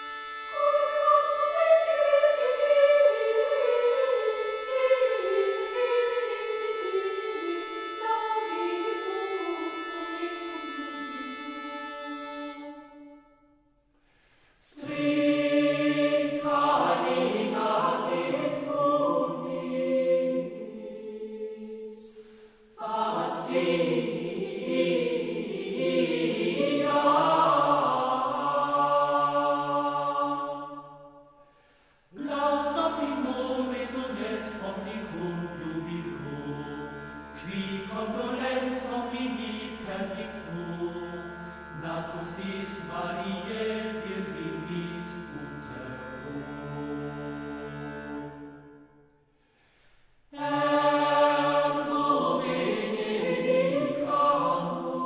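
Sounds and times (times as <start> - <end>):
choir singing chant: 0.0 - 13.0, 14.6 - 31.4, 32.1 - 49.0, 50.3 - 55.0.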